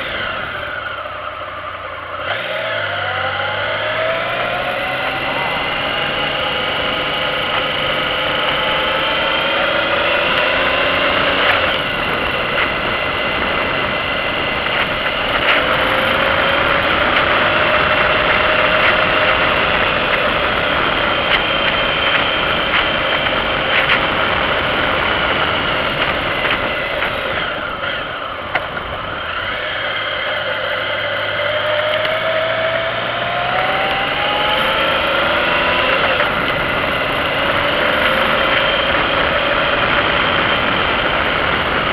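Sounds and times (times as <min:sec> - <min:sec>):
motorcycle engine revving: 0:00.0 - 0:41.9
wind and road noise: 0:00.0 - 0:41.9.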